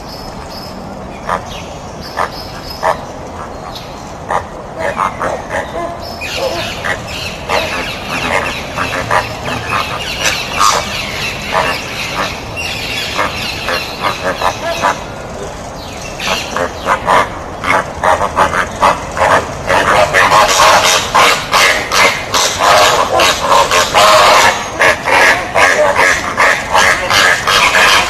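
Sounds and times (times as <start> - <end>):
flamingos calling: 1.1 - 28.0.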